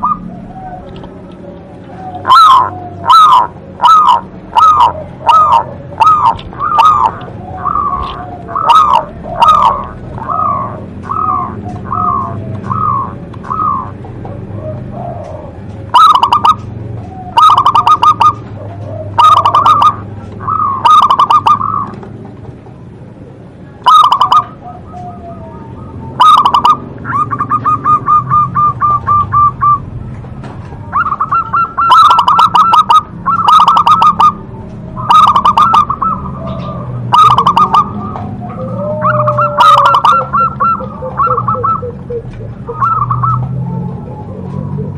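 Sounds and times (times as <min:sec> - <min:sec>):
dove trilled cooing: 0:00.0 - 0:22.4, 0:23.1 - 0:44.9.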